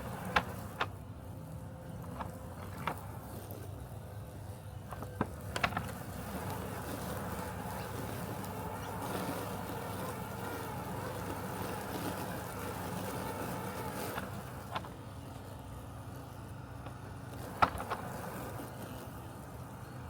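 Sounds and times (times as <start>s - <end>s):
high whirr: 0.0s - 20.0s
robotic lawn mower humming: 0.0s - 20.0s.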